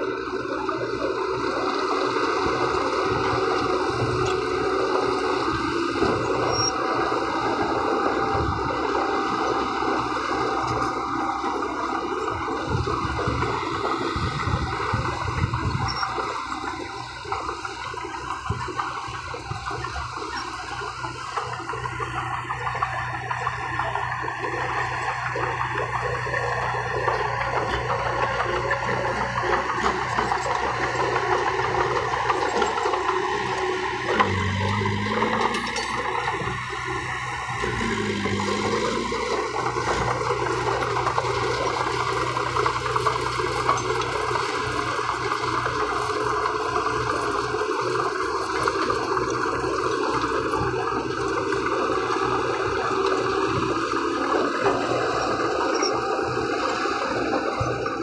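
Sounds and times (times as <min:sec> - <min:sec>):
bulldozer diesel drone: 0:00.0 - 0:58.0
clatter and scraping of soil and rock: 0:00.0 - 0:58.0.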